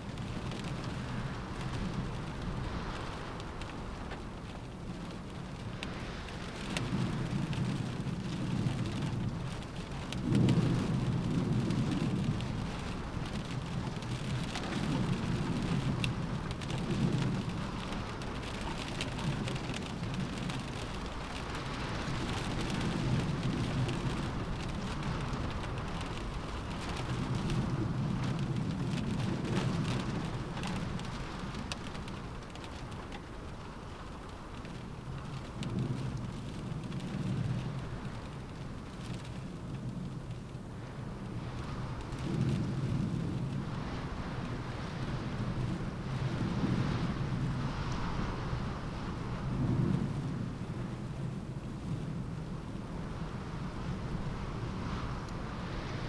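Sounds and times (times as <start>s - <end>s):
gusts of wind: 0.0s - 56.0s
rain pattering on a window: 0.0s - 56.0s.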